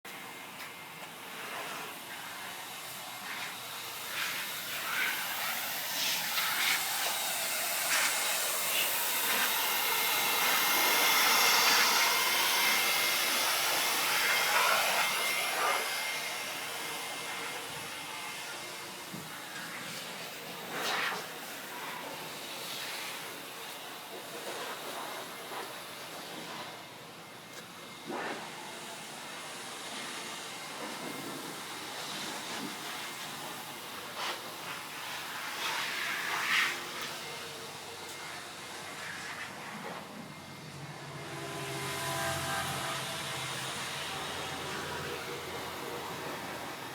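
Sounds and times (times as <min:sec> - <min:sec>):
air blower hissing: 0:00.1 - 0:24.0, 0:24.6 - 0:46.9.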